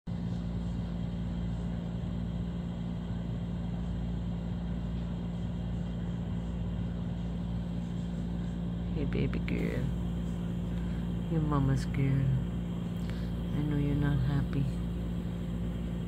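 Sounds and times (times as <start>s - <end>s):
low mechanical hum: 0.1s - 16.0s.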